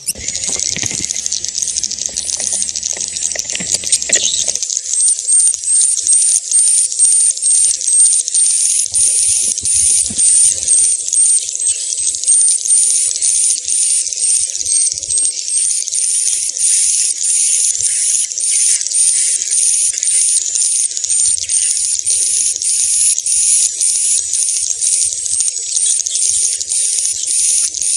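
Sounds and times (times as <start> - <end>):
swiftlet chittering call: 0.0 - 27.9.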